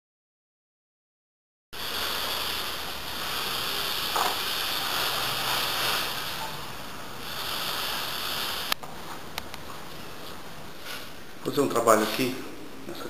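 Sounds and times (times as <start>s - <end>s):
microphone background hiss: 1.8s - 13.0s.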